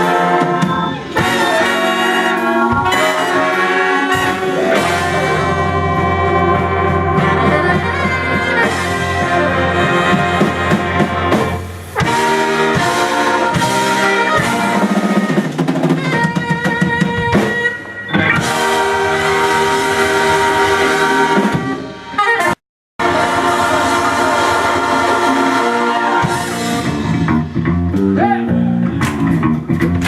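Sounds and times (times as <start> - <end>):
punchy horn stabs: 0.0 - 27.4
soul band with brass section: 0.0 - 30.0.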